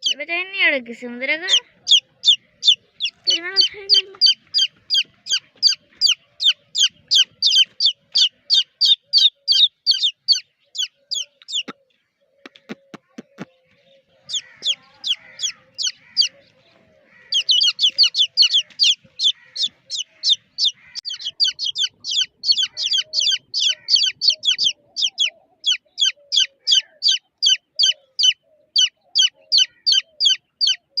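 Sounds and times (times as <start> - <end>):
chicks peeping: 1.4 - 31.0.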